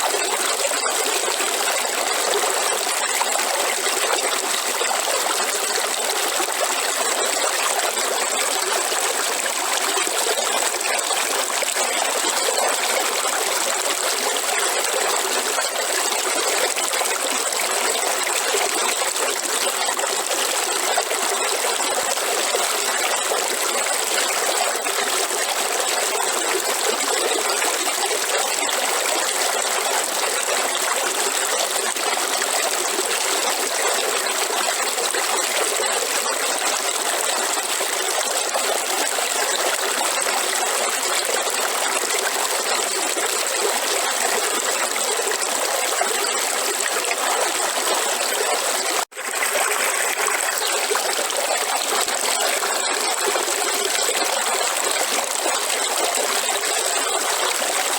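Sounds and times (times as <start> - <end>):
river water running over stones: 0.0 - 57.9.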